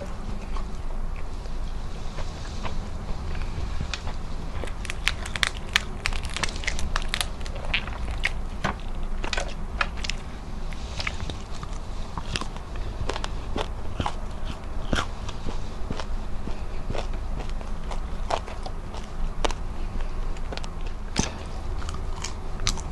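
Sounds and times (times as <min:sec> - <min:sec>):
fried fish crunching: 0:02.2 - 0:22.9.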